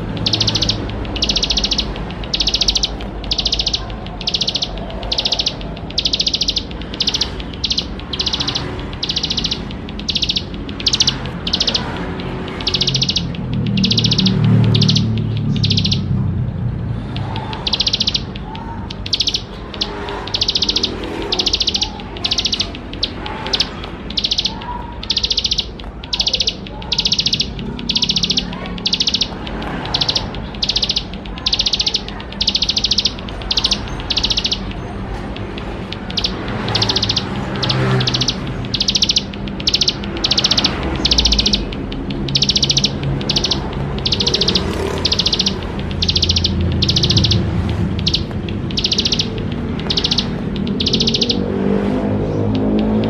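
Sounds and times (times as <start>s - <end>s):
bird singing rattling trills: 0.0s - 53.0s.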